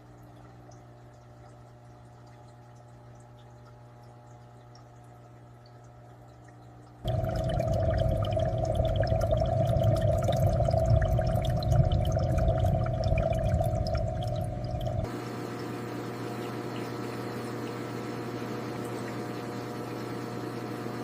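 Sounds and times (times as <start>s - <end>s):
aquarium water bubbling: 0.0s - 21.0s.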